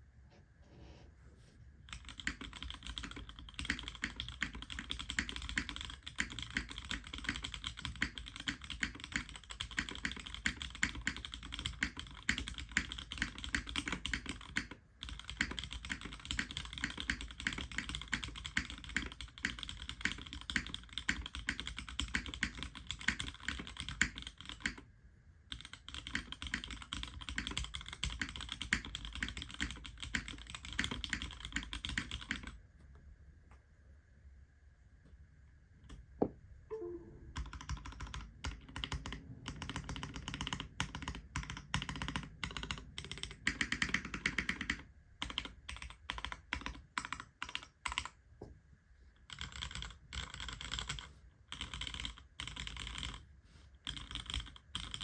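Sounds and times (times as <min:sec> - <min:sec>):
mechanical keyboard typing: 0:01.9 - 0:24.8, 0:25.5 - 0:32.6, 0:36.7 - 0:48.2, 0:49.3 - 0:53.2, 0:53.8 - 0:55.0.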